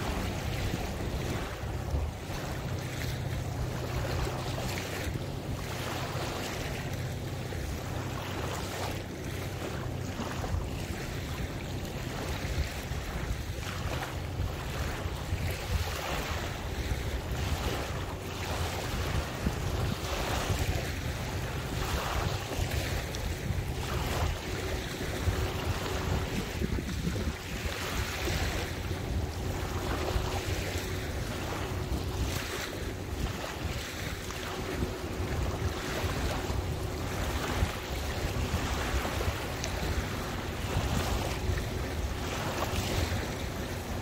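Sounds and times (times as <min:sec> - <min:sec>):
water lapping and sloshing: 0:00.0 - 0:44.0
wind buffeting microphone: 0:00.0 - 0:44.0.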